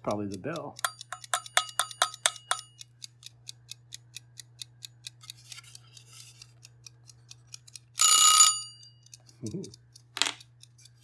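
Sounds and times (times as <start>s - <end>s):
kitchen timer ticking: 0.0s - 11.0s.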